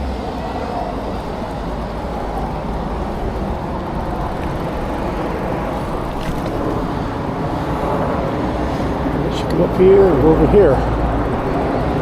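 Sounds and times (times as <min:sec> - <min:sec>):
bicycle road noise: 0:00.0 - 0:12.0
rushing wind: 0:00.0 - 0:12.0.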